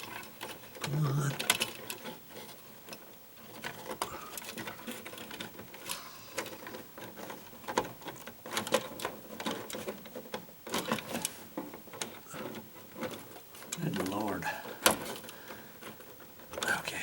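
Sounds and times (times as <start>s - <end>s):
clicks taps and scraping of wires: 0.0s - 17.0s.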